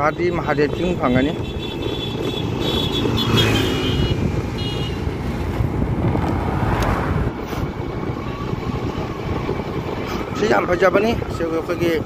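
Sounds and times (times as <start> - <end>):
vehicle rumble on road: 0.0 - 12.0
wind buffeting microphone: 0.0 - 12.0.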